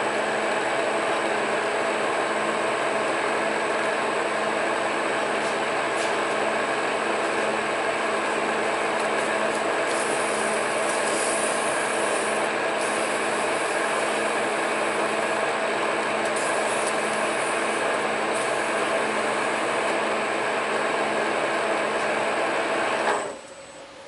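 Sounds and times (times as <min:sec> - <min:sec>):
metal lathe humming: 0:00.0 - 0:23.4.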